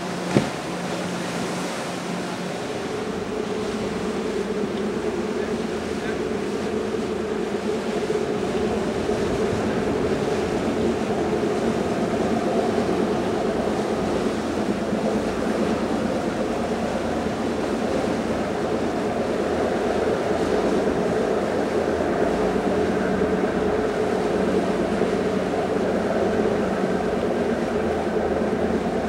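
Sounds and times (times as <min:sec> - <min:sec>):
boat diesel engines droning: 0:00.0 - 0:29.0
bow wave rushing: 0:00.0 - 0:29.0.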